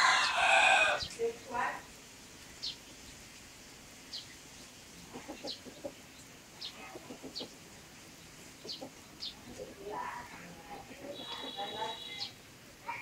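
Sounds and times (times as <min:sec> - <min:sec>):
young chickens clucking: 0:00.0 - 0:13.0.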